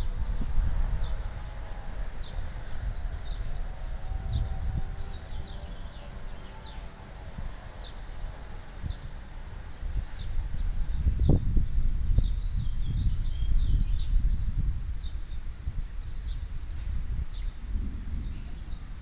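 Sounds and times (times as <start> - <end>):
low rumble: 0.0 - 19.0
songbird chirping: 0.0 - 19.0.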